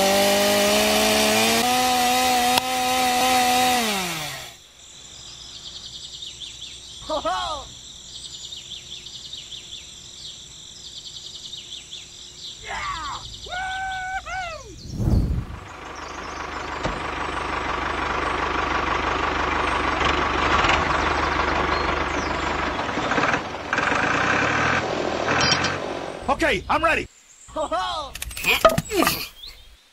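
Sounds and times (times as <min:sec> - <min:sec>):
birds chirping: 0:04.6 - 0:29.9.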